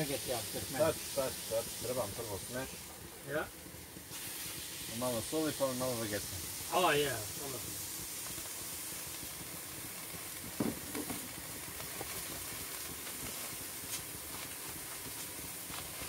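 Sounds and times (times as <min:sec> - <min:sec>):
burger patties sizzling: 0:00.0 - 0:16.0.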